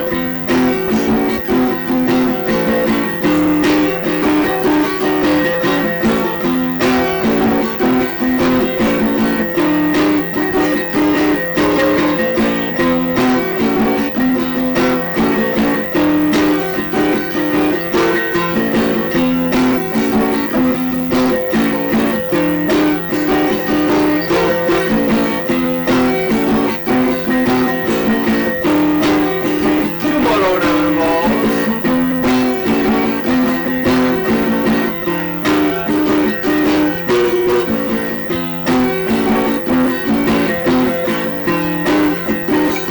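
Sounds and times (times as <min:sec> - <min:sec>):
plucked guitar riff: 0:00.0 - 0:41.0.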